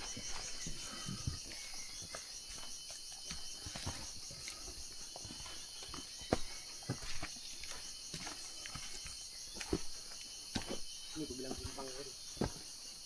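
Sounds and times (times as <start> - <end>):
footsteps crunching on trail: 0.0 - 13.0
insects pulsing chorus: 0.0 - 13.0.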